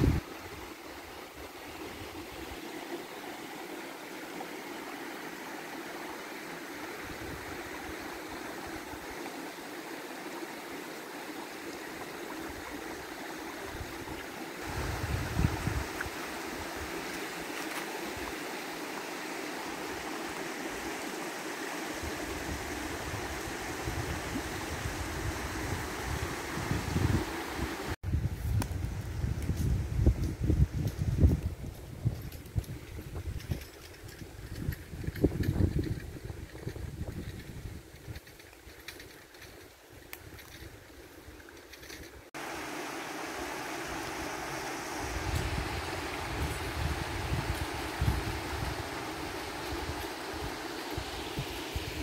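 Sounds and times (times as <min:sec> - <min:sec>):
stream babbling over stones: 0:00.0 - 0:28.0, 0:32.4 - 0:52.0.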